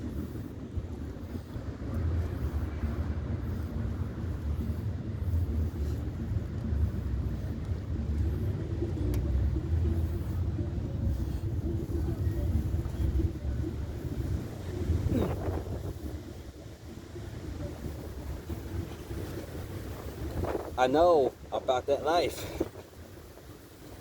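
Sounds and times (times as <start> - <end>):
faint engine hum: 0.0 - 24.0
low rumble of road traffic: 0.0 - 24.0.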